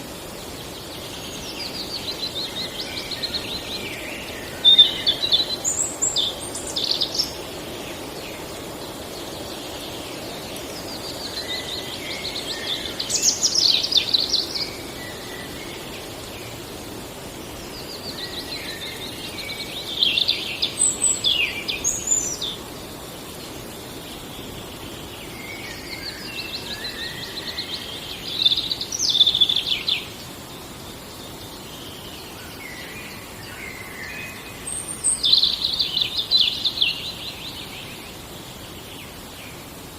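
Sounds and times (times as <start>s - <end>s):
faint steady hiss: 0.0s - 39.9s
songbird singing: 0.0s - 39.9s.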